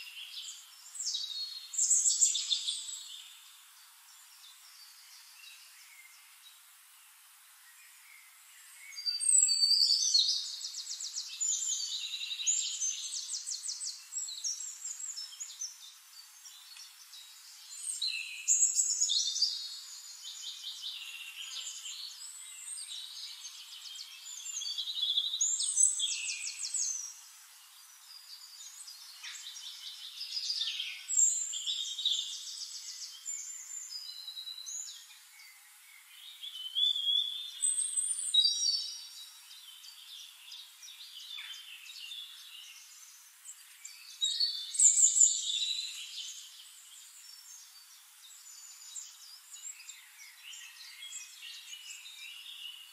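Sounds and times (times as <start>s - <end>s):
birds singing and chirping: 0.0s - 6.7s, 7.6s - 52.9s.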